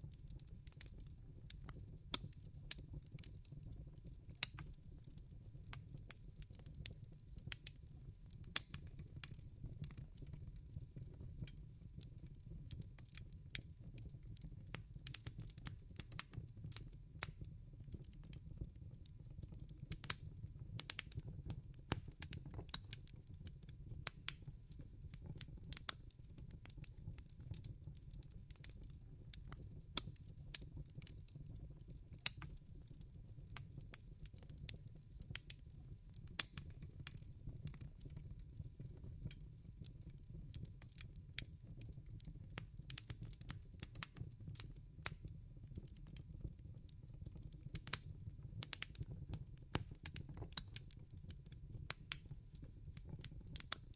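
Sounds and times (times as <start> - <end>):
wood crackling and popping: 0.0 - 53.9.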